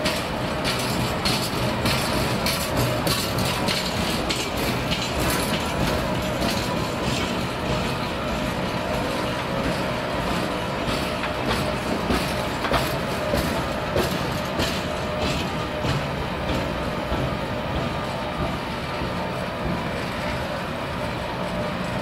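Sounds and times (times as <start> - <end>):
train wagons clicking and clattering: 0.0 - 22.0
train wheels rumbling on rail: 0.0 - 22.0.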